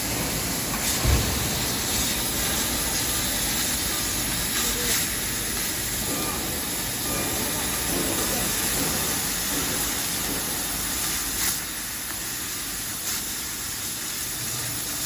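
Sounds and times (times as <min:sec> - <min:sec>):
laser cutter hissing: 0:00.0 - 0:15.0.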